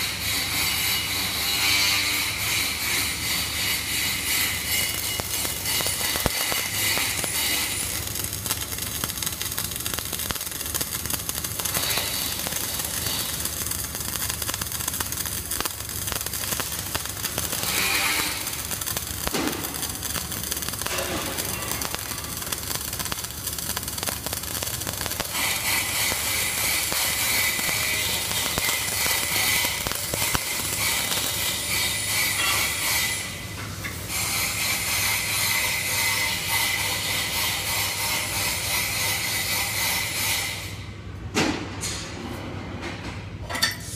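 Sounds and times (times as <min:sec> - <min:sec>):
welding arc crackling: 0:00.0 - 0:40.9.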